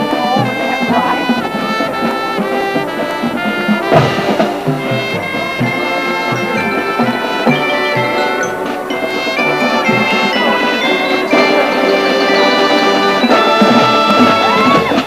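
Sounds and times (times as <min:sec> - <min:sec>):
bugles playing chords: 0:00.0 - 0:15.0.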